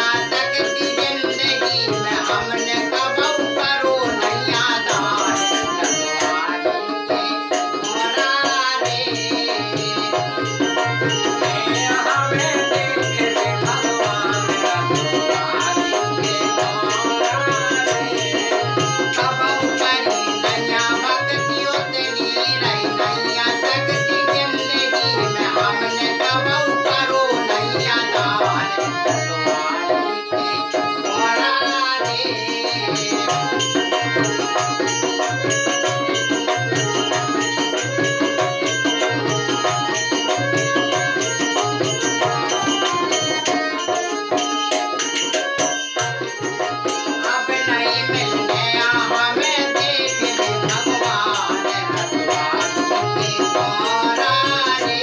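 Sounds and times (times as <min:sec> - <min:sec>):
dholak drum beat: 0:00.0 - 0:55.0
harmonium melody: 0:00.0 - 0:55.0.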